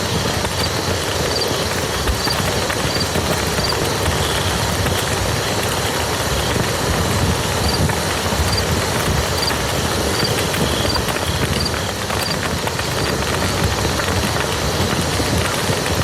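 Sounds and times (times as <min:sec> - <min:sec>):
rain on muddy ground: 0:00.0 - 0:16.0.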